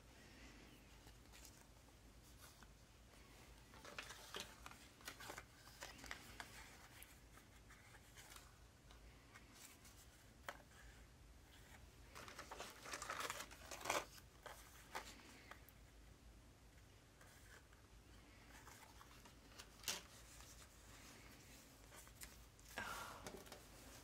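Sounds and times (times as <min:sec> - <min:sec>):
cardboard cards rustling and clicking: 0:00.9 - 0:02.8, 0:03.5 - 0:15.7, 0:17.1 - 0:24.0.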